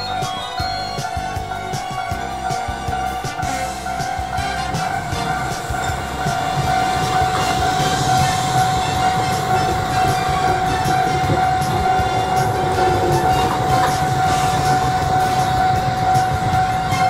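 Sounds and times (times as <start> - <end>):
electric train passing: 0.0 - 17.0
steady high tone: 0.0 - 17.0
wheels clicking over rails: 0.0 - 17.0.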